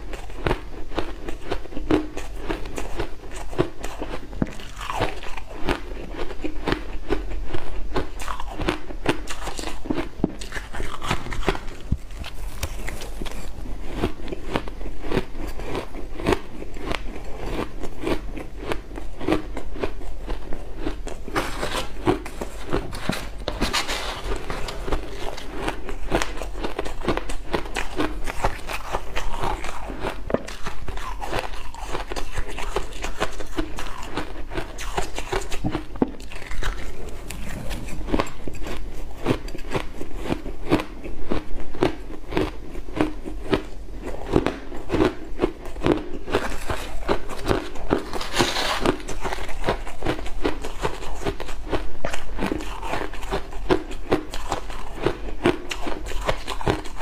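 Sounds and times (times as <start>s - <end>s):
chewing crushed ice: 0.0s - 57.0s.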